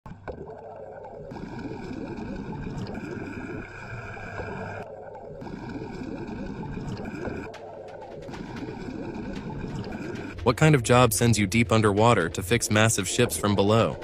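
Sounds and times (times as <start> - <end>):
underwater bubbling and gurgling: 0.1 - 14.0.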